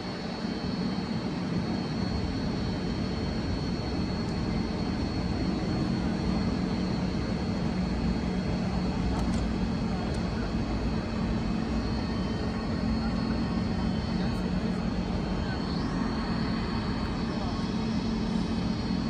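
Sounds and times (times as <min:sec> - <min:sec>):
thin high whine: 0:00.0 - 0:19.0
train equipment low hum: 0:00.0 - 0:19.0.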